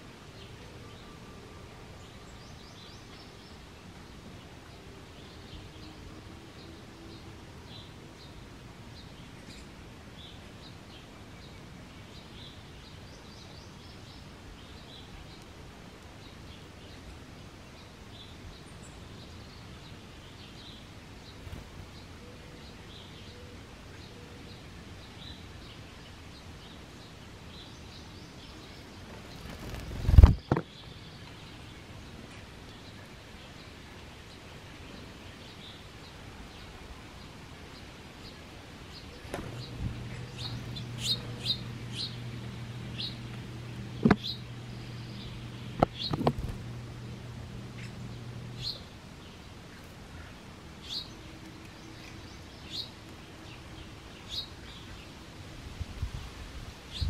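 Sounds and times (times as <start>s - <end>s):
low steady hum: 0.0s - 57.0s
small songbirds chirping: 0.0s - 57.0s.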